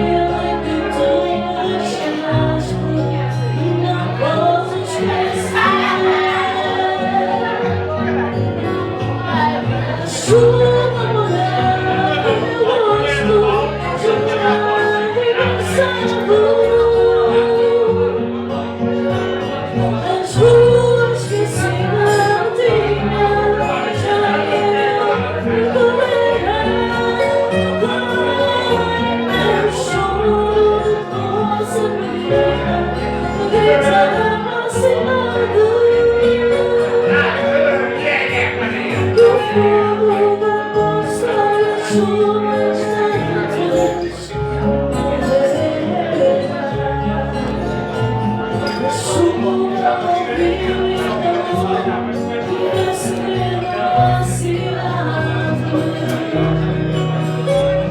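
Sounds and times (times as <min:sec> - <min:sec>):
woman singing: 0:00.0 - 0:18.6, 0:19.9 - 0:57.9.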